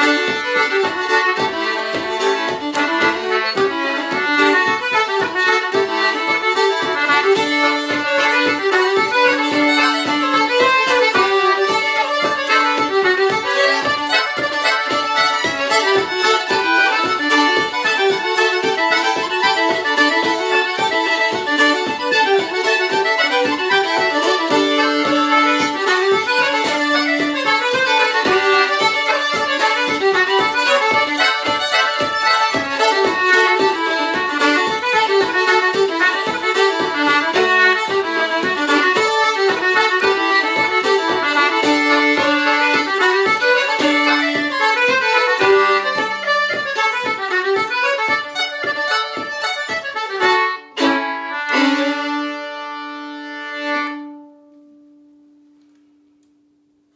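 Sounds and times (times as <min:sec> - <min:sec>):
fiddle: 0:00.0 - 0:55.3
concertina: 0:00.0 - 0:56.9.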